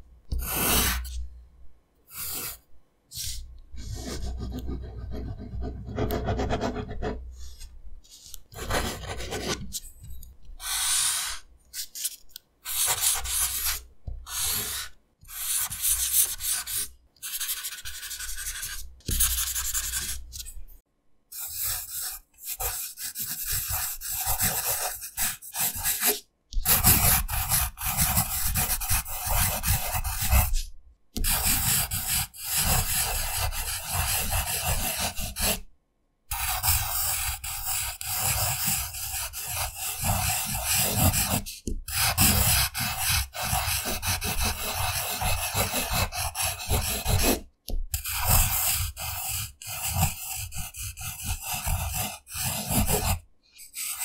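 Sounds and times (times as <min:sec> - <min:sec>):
pen scratching on paper: 0:00.3 - 0:01.2, 0:02.1 - 0:09.9, 0:10.5 - 0:20.6, 0:21.3 - 0:35.6, 0:36.3 - 0:54.0.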